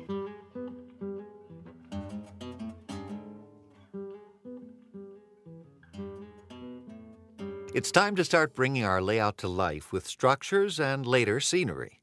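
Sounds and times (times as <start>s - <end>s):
acoustic guitar playing: 0.0s - 9.9s.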